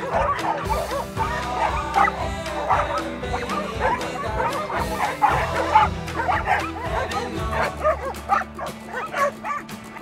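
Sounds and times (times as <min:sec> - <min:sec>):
background music low notes: 0:00.0 - 0:10.0
dogs barking and whining: 0:00.0 - 0:10.0.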